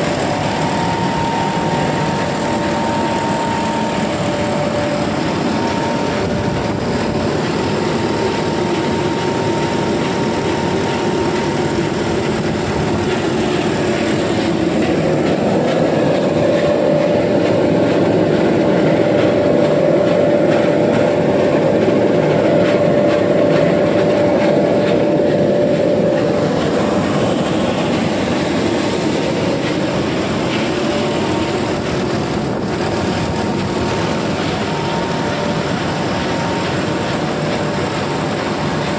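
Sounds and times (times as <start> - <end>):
loud machine drone: 0.0 - 38.9
steady machine whine: 0.0 - 38.9.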